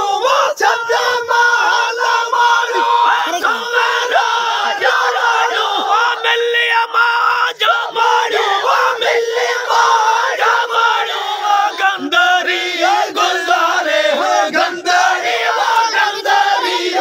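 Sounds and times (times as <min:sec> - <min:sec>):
group singing without instruments: 0:00.0 - 0:06.7, 0:07.3 - 0:17.0.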